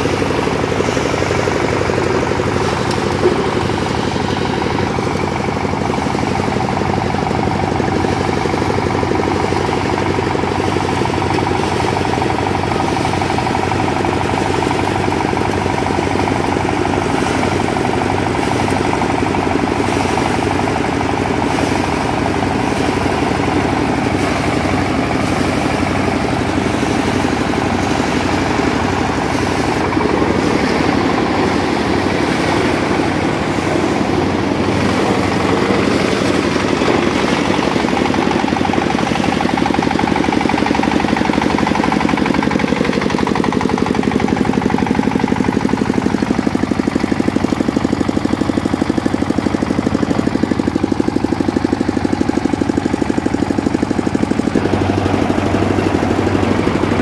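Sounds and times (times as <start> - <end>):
thresher machine droning: 0.0 - 57.0.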